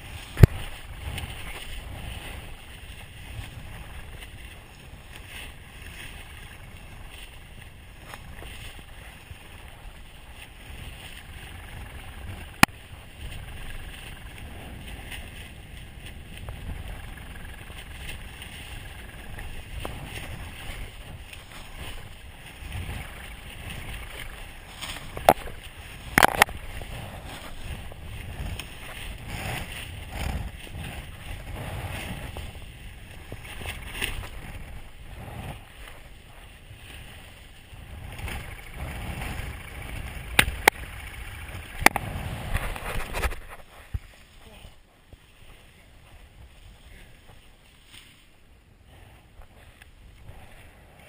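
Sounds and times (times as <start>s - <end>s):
wind rushing over microphone: 0.0s - 51.0s.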